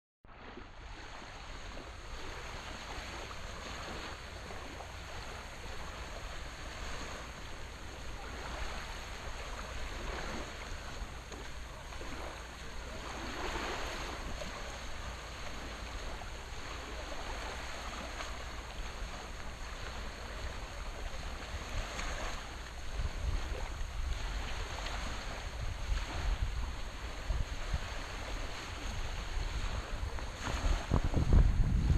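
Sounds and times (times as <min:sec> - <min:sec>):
small waves washing on shore: 0:00.3 - 0:31.9
wind buffeting microphone: 0:00.9 - 0:31.9.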